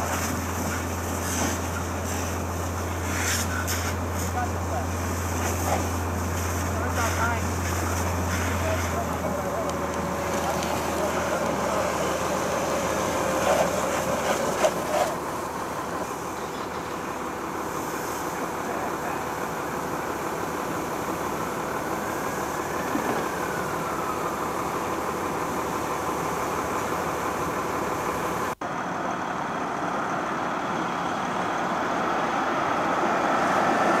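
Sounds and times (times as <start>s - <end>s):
fire hose spraying water: 0.0s - 28.6s.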